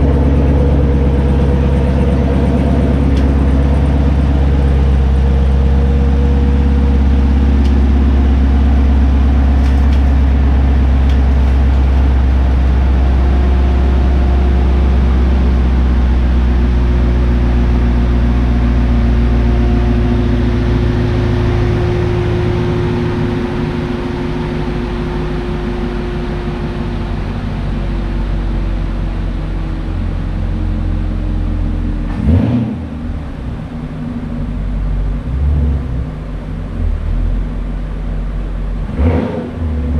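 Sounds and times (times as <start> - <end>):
engine droning at low speed: 0.0 - 39.9.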